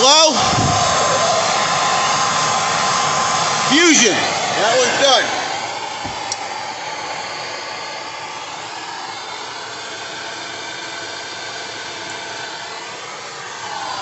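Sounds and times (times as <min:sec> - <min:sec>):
torch flame hissing: 0:00.0 - 0:14.0.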